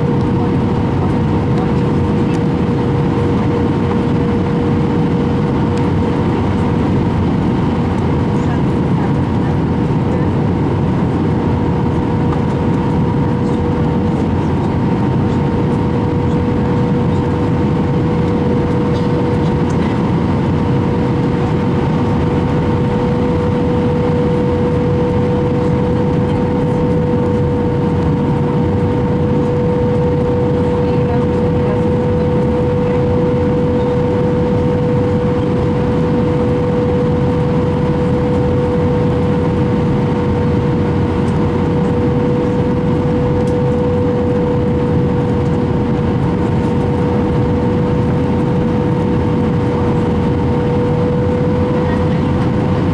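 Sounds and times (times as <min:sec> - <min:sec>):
constant hum tone: 0:00.0 - 0:52.9
jet engine cabin rumble: 0:00.0 - 0:52.9.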